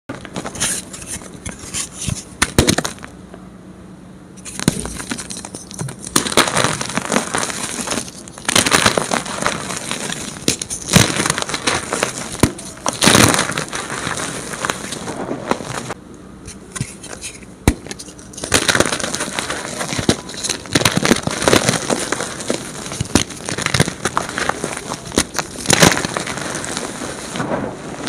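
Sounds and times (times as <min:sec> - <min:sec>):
chalk crunching and snapping: 0:00.3 - 0:03.1, 0:04.4 - 0:27.5.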